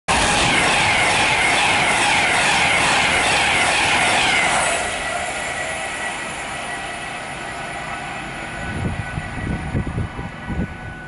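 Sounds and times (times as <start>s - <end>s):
electric train passing at speed: 0.1s - 11.0s.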